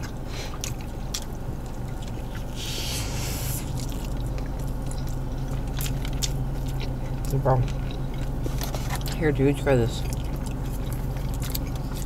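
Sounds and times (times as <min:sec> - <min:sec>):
low hum: 0:00.0 - 0:12.0
people chewing: 0:00.0 - 0:12.0.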